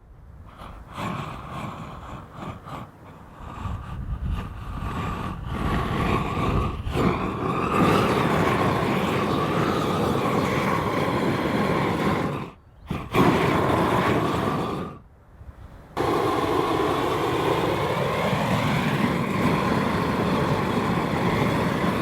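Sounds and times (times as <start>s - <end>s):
propane torch burning: 0.5s - 15.0s, 16.0s - 22.0s.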